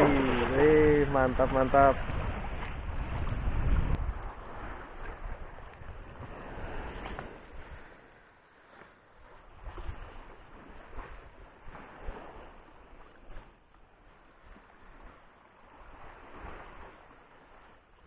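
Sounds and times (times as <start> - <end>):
sea water lapping: 0.0 - 18.0
wind on microphone: 0.0 - 18.0.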